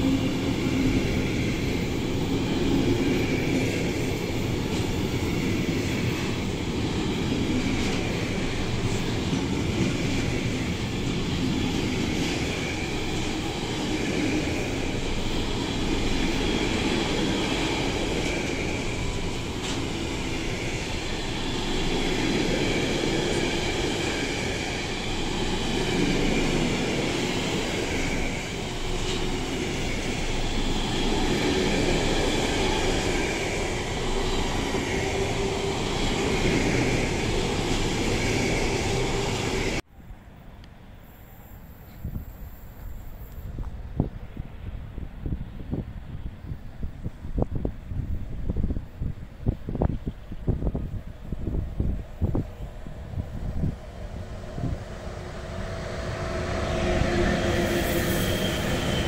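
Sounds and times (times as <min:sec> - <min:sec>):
train wheels rumbling and rattling: 0:00.0 - 0:39.8, 0:41.8 - 0:59.0.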